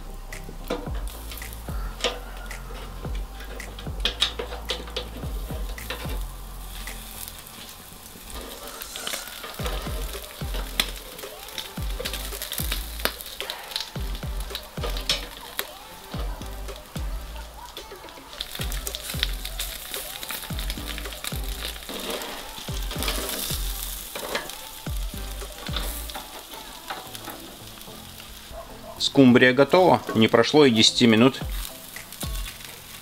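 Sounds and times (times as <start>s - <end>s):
crackles and pops: 0.0s - 33.0s
fish sizzling over charcoal: 0.0s - 33.0s.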